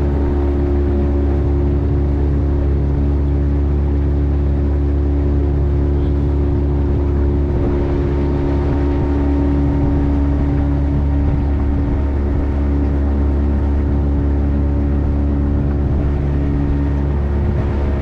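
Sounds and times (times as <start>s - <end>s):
motorboat engine droning: 0.0s - 18.0s.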